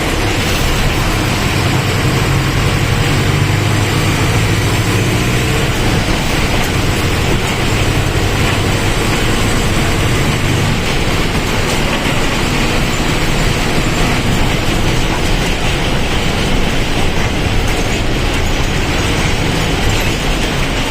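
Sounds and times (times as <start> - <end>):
bus diesel engine droning: 0.0 - 20.9
road noise: 0.0 - 20.9.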